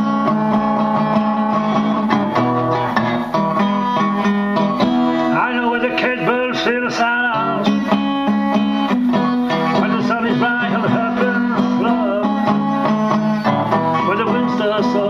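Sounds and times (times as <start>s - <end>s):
blues guitar music: 0.0s - 15.0s.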